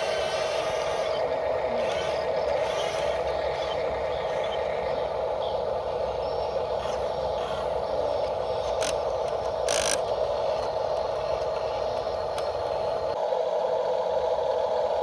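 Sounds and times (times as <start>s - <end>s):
electric motor humming: 0.0s - 13.2s.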